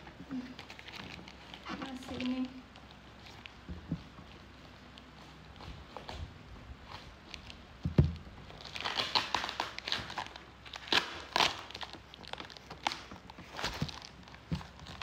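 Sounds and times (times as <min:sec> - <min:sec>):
cardboard and plastic wrap rustling: 0:00.0 - 0:15.0.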